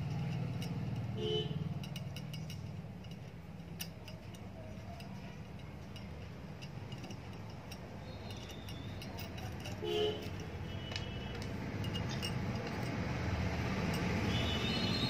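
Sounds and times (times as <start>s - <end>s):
small metal parts clinking: 0.0s - 15.0s.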